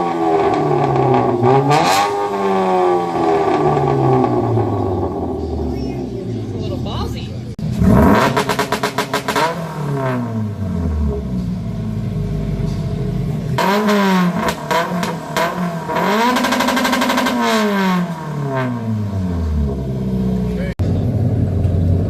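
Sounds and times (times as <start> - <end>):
car engine revving hard: 0.0 - 5.7, 7.6 - 12.2, 13.3 - 21.3.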